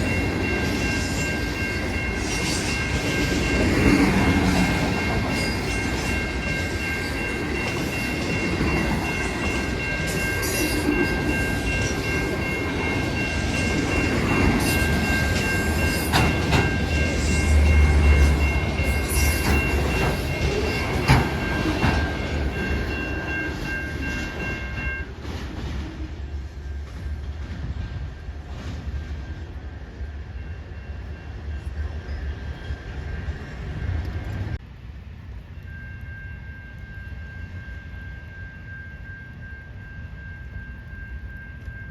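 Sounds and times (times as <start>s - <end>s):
train wheels rumbling and knocking: 0.0s - 35.5s.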